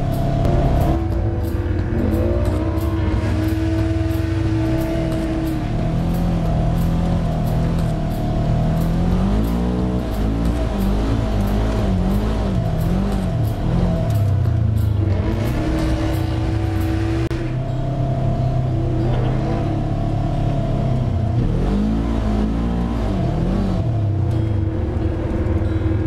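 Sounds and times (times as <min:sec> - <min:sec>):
off-road vehicle engine revving: 0:00.0 - 0:26.0.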